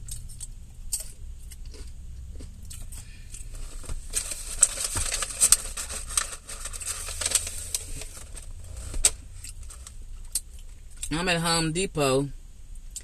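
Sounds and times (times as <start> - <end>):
crunching chips: 0.0 - 11.1.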